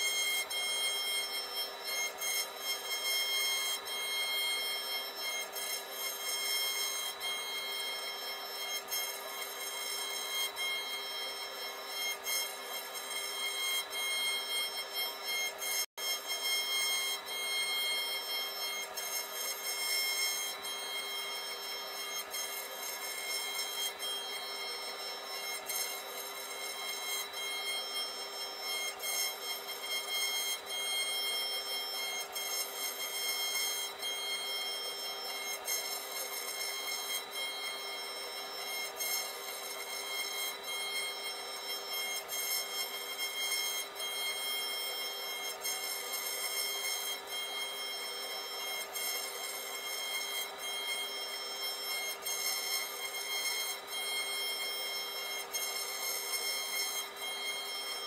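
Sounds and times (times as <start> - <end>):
bit cutting wood: 0.0 - 58.0
router spindle high whine: 0.0 - 58.0.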